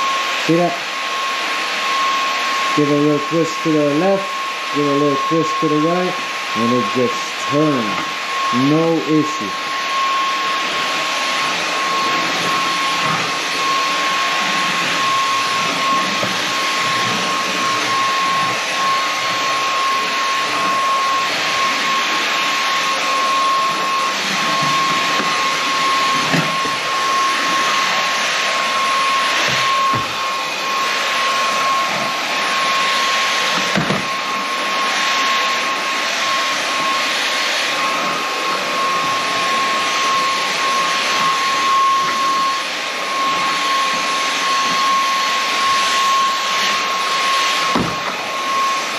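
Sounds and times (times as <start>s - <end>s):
stick vacuum running: 0.0s - 48.9s.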